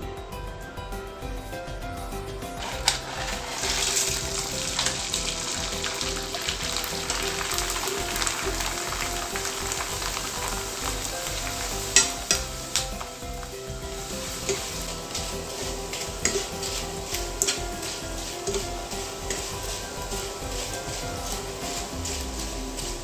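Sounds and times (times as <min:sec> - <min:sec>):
crackers sizzling in hot oil: 0:02.6 - 0:23.0
wire strainer scraping pan: 0:02.6 - 0:23.0.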